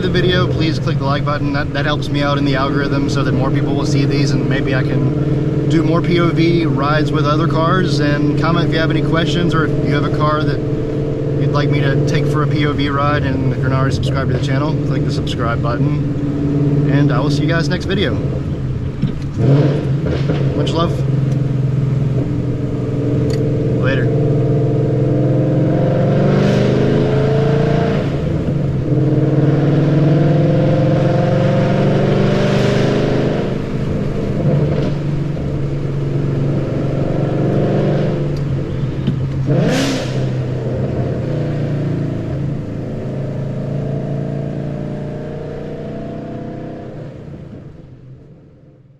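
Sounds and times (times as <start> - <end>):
deep car exhaust drone: 0.0 - 48.9.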